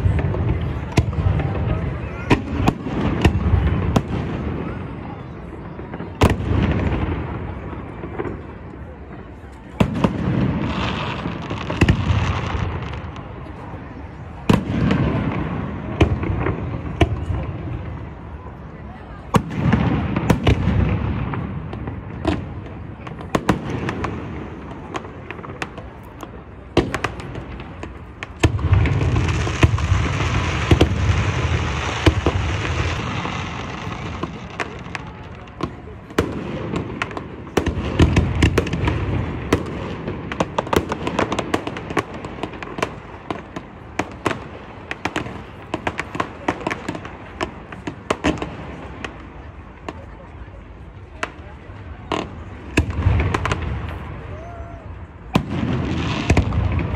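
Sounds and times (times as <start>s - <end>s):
fireworks bangs and crackles: 0.0s - 56.9s
rumbling firework volleys: 0.0s - 56.9s.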